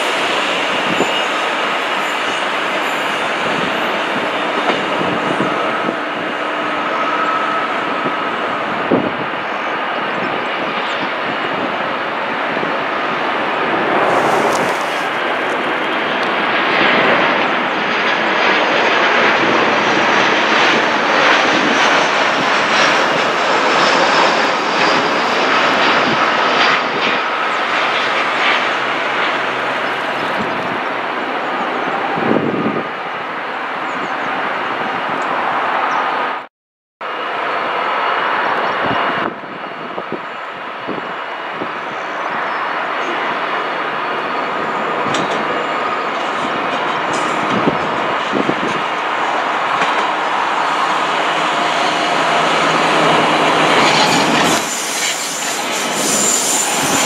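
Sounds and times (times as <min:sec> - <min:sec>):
jet airliner engines rushing: 0:00.0 - 0:57.0.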